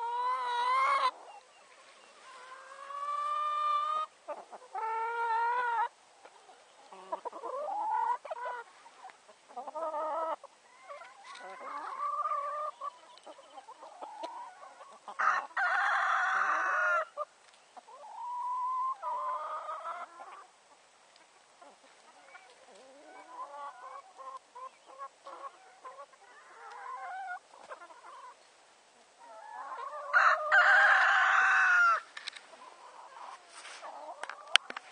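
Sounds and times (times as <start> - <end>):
hen drawn-out calls: 0.0 - 20.5, 21.6 - 28.4, 29.2 - 34.7
hens clucking: 0.0 - 34.9.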